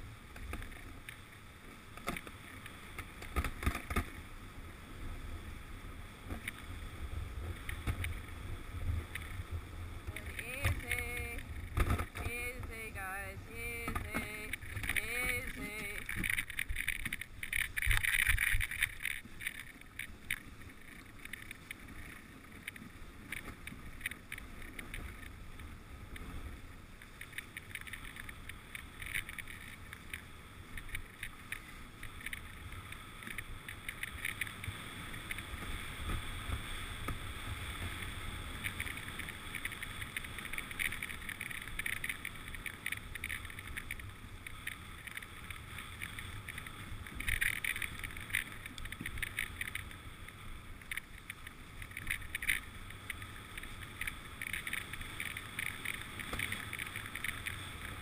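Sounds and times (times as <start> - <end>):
sled crunching and rattling: 0.0 - 58.0
sled runners scraping snow: 6.3 - 58.0.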